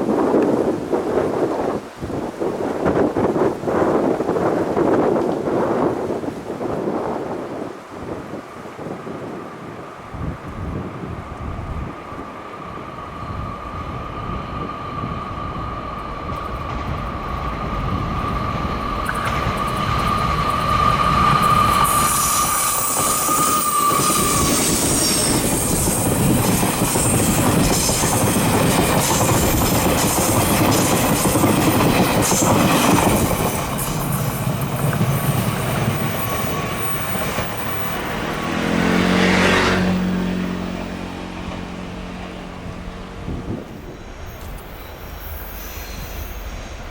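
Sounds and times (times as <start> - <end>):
train passing: 0.0 - 46.9.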